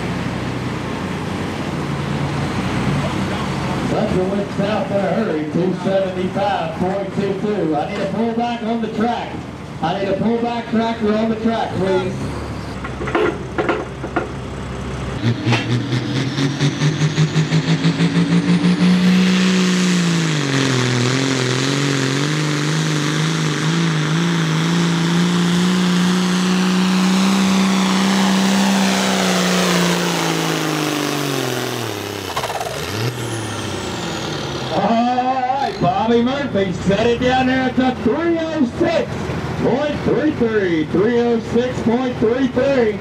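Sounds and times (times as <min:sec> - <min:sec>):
diesel tractor engine at full throttle: 0:00.0 - 0:43.0.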